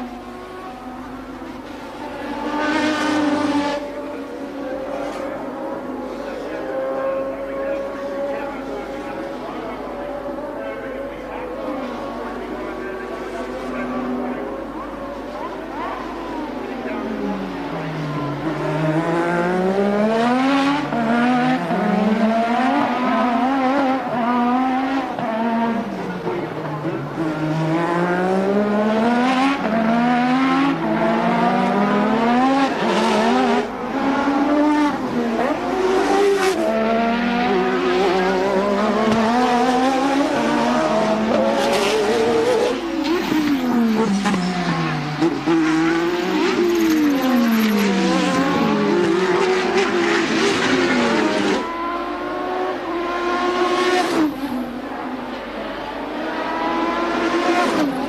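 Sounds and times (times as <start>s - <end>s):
racing car engines: 0.0s - 58.0s
racing cars passing by: 0.0s - 58.0s.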